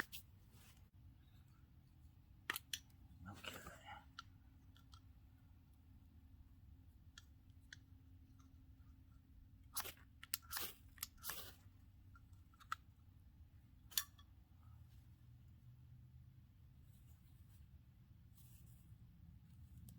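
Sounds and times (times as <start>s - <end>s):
faint low hum: 0.0s - 19.9s.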